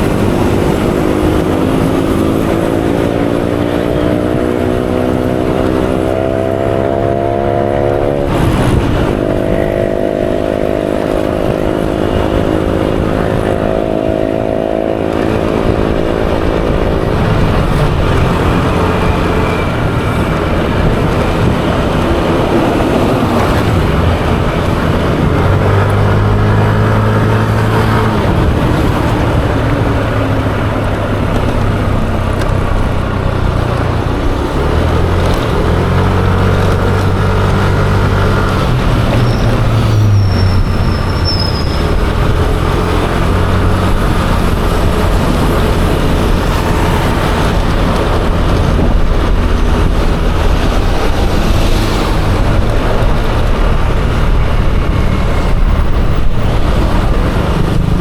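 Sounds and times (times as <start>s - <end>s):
scooter engine running: 0.0s - 58.0s
wind and road noise: 0.0s - 58.0s.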